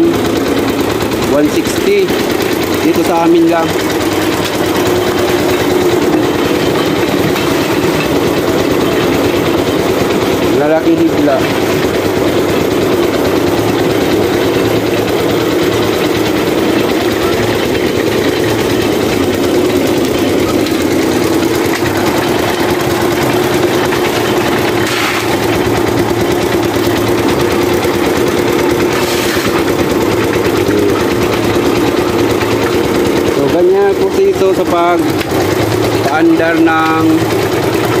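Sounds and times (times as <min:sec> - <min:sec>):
machine engine humming: 0:00.0 - 0:38.0.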